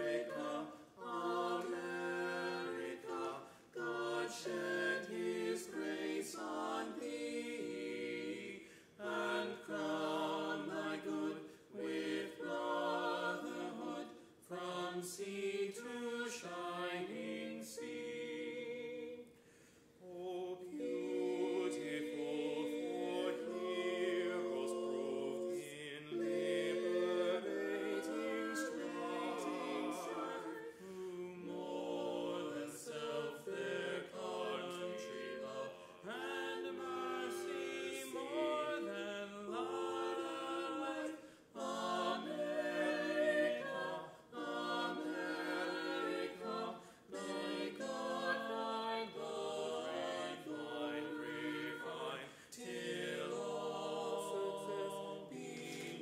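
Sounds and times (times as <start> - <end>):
vocal quartet singing in harmony: 0.0 - 56.0.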